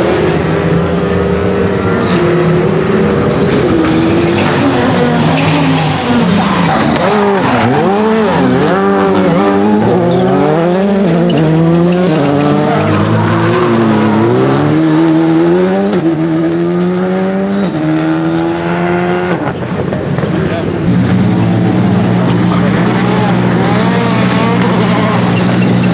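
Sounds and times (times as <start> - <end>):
rally car engine revving: 0.0 - 25.9.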